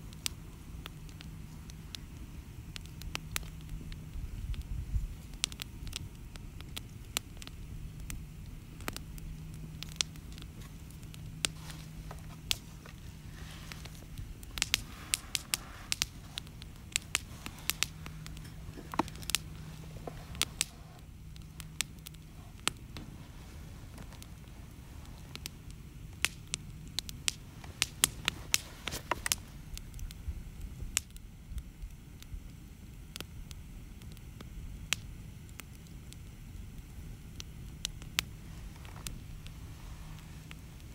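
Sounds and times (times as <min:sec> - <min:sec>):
campfire crackling and popping: 0:00.0 - 0:40.9
soft hiss: 0:00.0 - 0:40.9.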